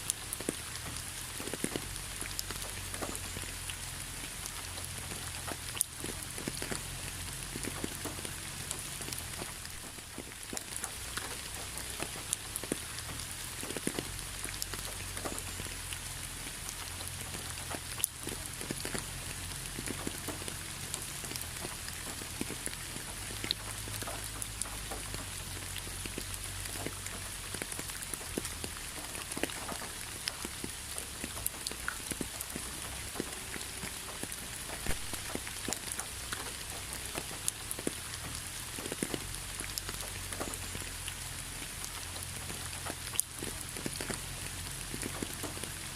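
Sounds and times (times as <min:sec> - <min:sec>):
raindrops ticking on a surface: 0:00.0 - 0:45.9.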